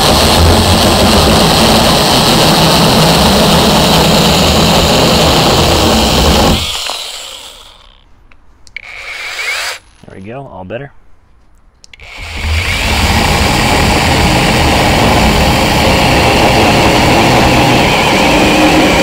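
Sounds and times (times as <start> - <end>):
chainsaw cutting wood: 0.0 - 8.0, 8.8 - 9.9, 12.0 - 19.0.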